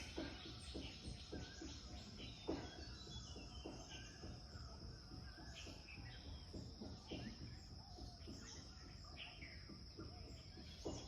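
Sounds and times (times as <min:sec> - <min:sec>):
birds chirping: 0:00.0 - 0:11.0
soft low thumps: 0:00.0 - 0:11.0.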